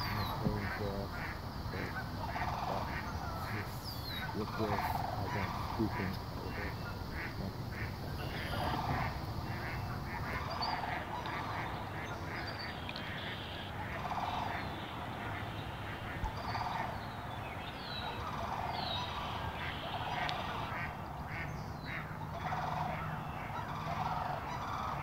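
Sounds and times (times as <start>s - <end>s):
low background rumble: 0.0s - 25.0s
small birds calling: 0.0s - 25.0s
waterfowl honking and quacking: 0.0s - 25.0s.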